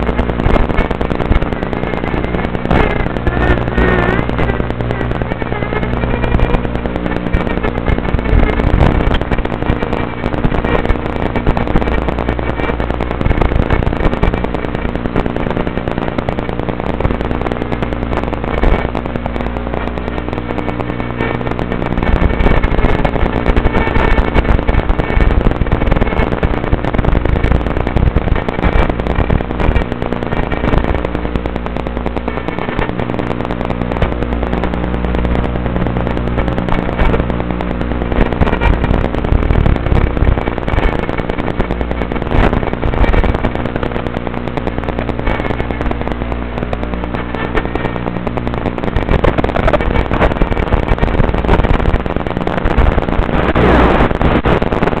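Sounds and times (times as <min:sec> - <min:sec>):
crackling static: 0:00.0 - 0:55.0.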